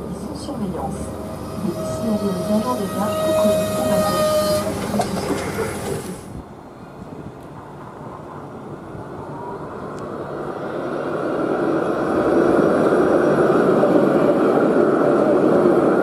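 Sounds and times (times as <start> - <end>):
tram passing: 0.0 - 16.0.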